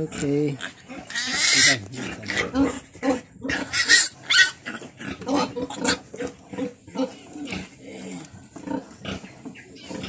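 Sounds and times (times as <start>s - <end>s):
piglets squealing and grunting: 0.0s - 10.0s.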